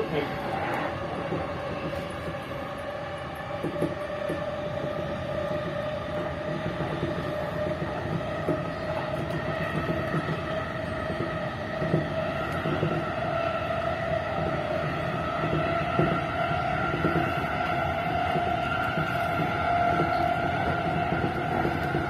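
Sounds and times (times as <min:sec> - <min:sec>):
wheels clicking on track: 0:00.0 - 0:13.3, 0:14.4 - 0:22.0
electric train rumble: 0:00.0 - 0:22.0
train motor whine: 0:00.5 - 0:22.0.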